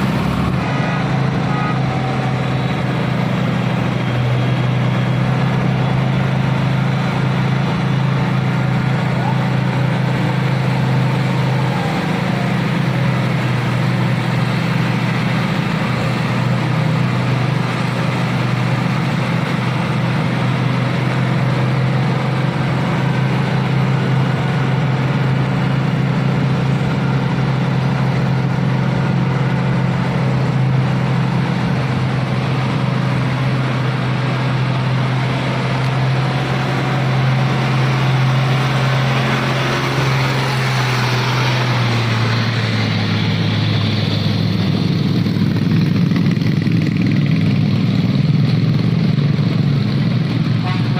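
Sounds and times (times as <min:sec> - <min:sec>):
diesel truck engine droning: 0:00.0 - 0:50.9.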